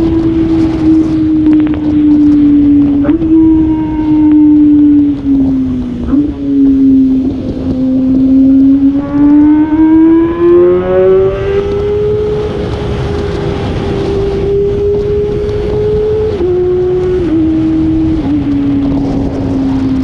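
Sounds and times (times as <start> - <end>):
motorcycle engine revving: 0.0 - 20.0
wind rushing over microphone: 0.0 - 20.0.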